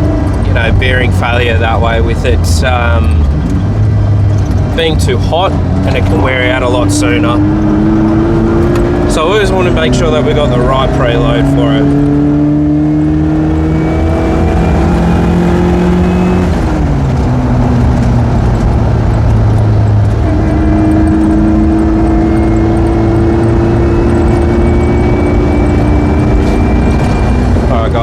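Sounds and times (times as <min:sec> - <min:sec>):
car engine accelerating: 0:00.0 - 0:28.0
road noise: 0:00.0 - 0:28.0.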